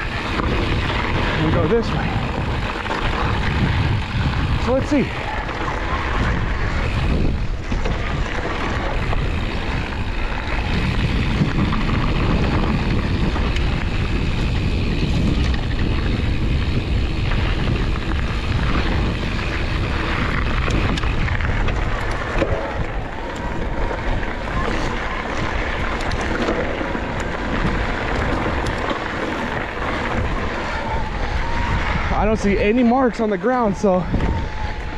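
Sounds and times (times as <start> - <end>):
bike knocks and rattles: 0.0 - 31.7
bike tyres rolling on dirt: 0.0 - 34.9
wind buffeting microphone: 0.0 - 34.9.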